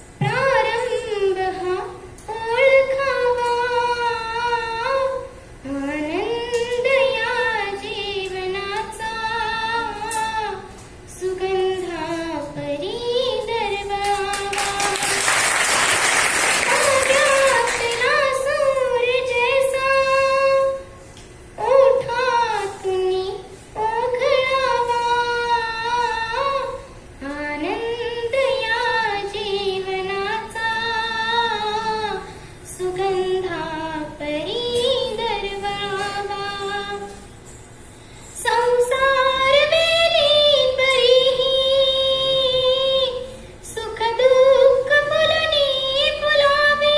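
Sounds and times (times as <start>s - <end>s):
girl singing with vibrato: 0.0s - 37.5s, 38.3s - 46.9s.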